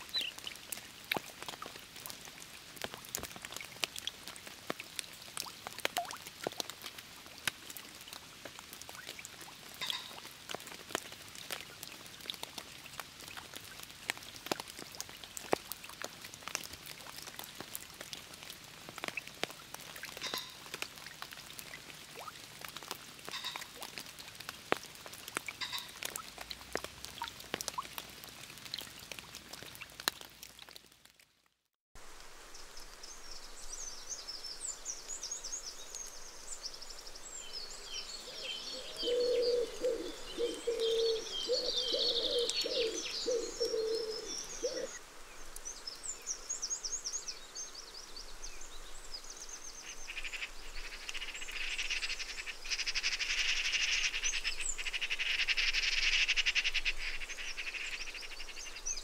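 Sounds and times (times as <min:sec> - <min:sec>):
raindrops pattering on leaves: 0:00.0 - 0:59.0.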